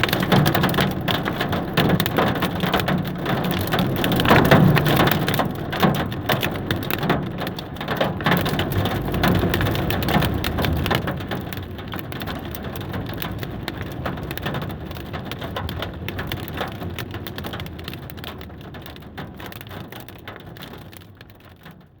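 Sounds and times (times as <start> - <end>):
heavy rain and hail pelting: 0.0 - 22.0.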